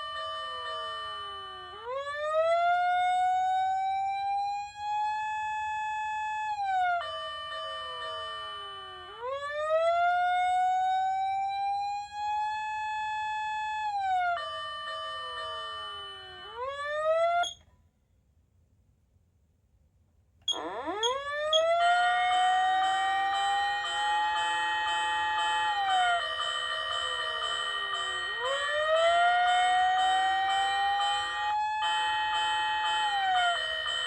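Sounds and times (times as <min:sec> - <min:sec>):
wailing siren: 0:00.0 - 0:17.6, 0:20.5 - 0:34.0.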